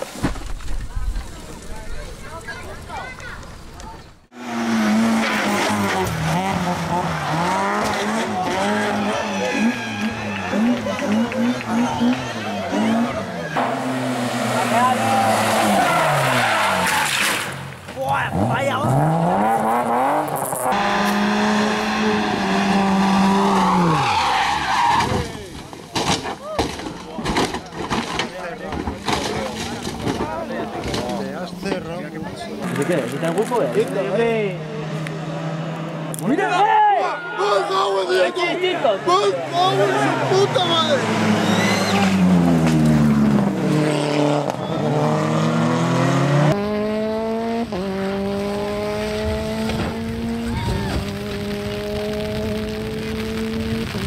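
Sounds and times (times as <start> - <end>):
rally car engine revving: 4.3 - 25.7, 27.4 - 36.4, 39.4 - 54.0.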